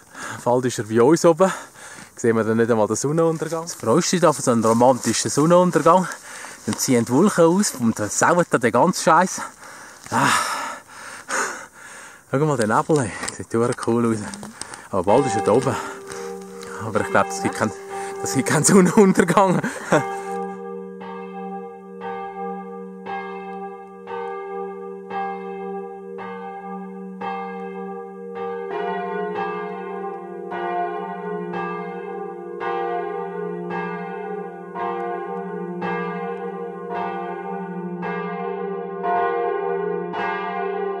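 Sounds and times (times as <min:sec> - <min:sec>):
church bells ringing: 0:00.0 - 0:41.0.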